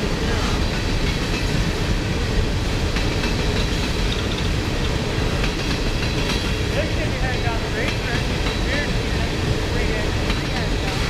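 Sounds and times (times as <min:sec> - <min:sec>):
wheels clacking over rail joints: 0:00.0 - 0:01.9, 0:02.7 - 0:11.0
freight train rumbling: 0:00.0 - 0:11.0.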